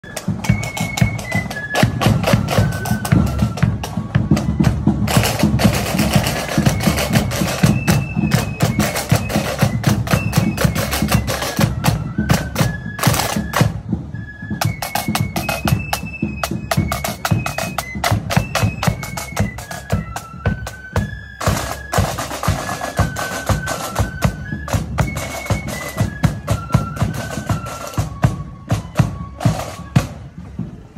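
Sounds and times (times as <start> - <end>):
marching flute band playing: 0.0 - 30.9
snare and bass drums: 0.0 - 30.9.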